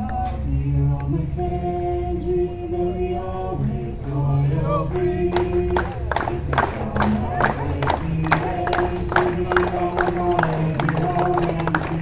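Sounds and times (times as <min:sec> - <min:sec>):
voices singing a cappella: 0:00.0 - 0:12.0.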